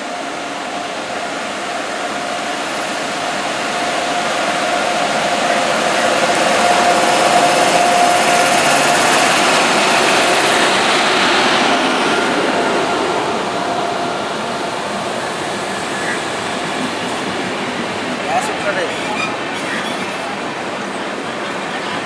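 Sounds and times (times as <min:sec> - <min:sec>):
locomotive whine: 0:00.0 - 0:22.0
train passing at speed: 0:00.0 - 0:22.0.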